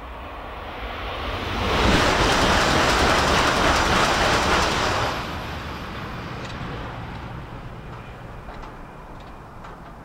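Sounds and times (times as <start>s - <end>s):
high-speed train passing: 0.0s - 10.0s.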